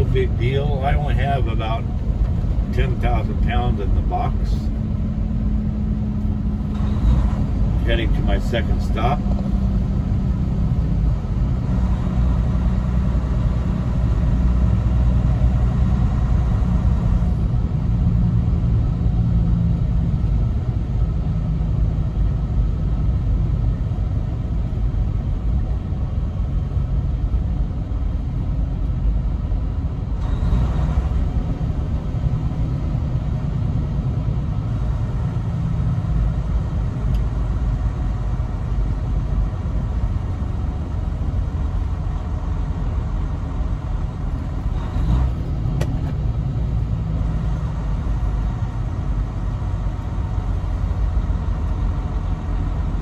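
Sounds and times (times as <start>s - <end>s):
truck diesel engine rumble: 0.0s - 53.0s.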